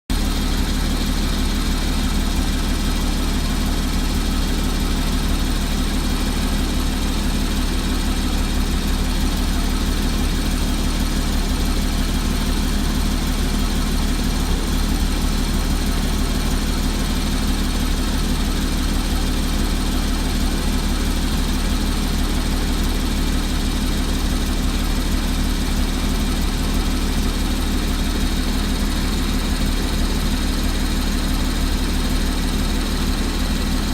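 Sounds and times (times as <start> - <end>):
car engine idling: 0.1 - 33.9
engine ticking: 0.1 - 33.9.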